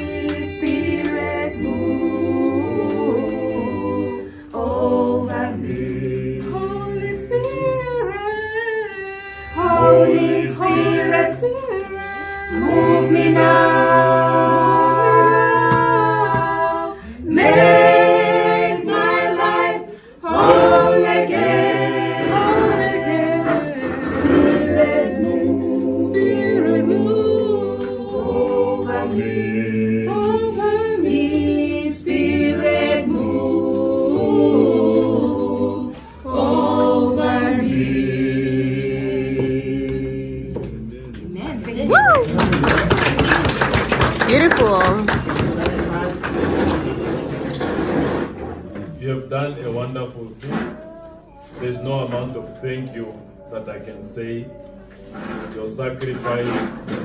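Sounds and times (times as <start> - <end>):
group singing a cappella: 0.0 - 41.4, 46.4 - 57.0.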